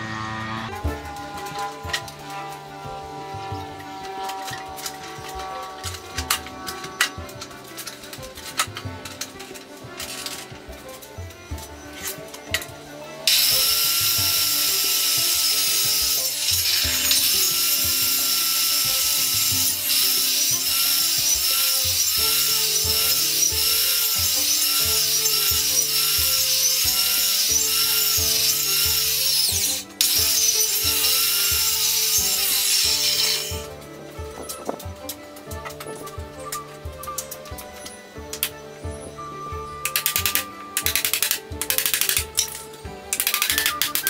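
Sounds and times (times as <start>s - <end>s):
circular saw cutting wood: 0.0s - 44.0s.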